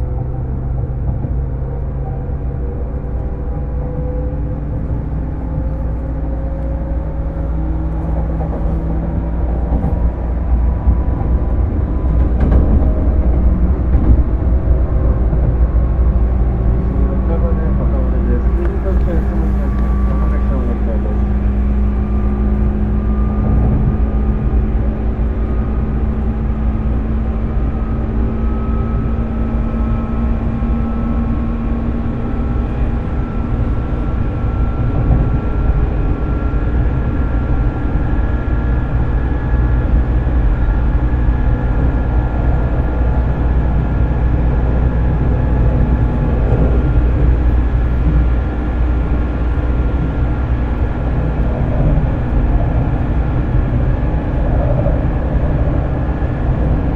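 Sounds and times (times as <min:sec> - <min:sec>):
electric train motor whine: 0:00.0 - 0:56.9
low train running rumble: 0:00.0 - 0:56.9.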